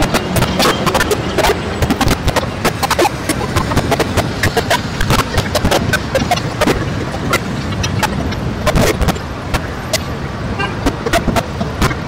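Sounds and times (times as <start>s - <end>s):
digital clicks and crackles: 0.0s - 10.1s, 10.8s - 12.0s
rough steady noise: 0.0s - 12.0s.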